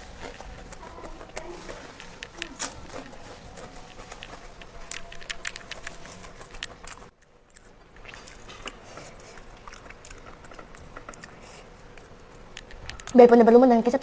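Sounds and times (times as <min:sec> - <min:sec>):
chewing crunchy fried food: 0:00.0 - 0:14.0.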